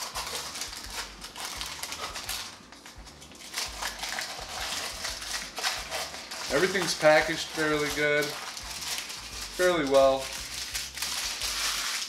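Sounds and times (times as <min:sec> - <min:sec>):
packing wrap rustling and crinkling: 0:00.0 - 0:12.0.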